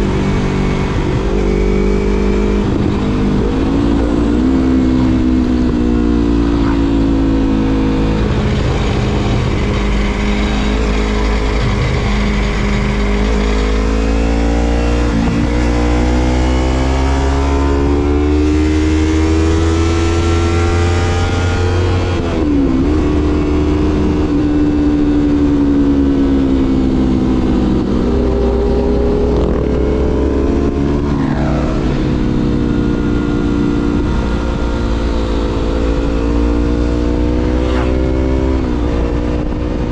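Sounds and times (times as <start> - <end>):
motorcycle engine rising and falling: 0.0 - 39.9.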